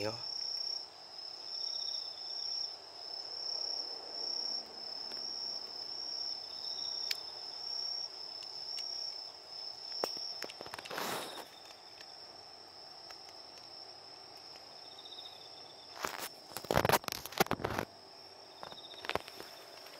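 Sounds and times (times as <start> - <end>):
crickets trilling: 0.0 - 19.9
insect chirping: 0.0 - 19.9.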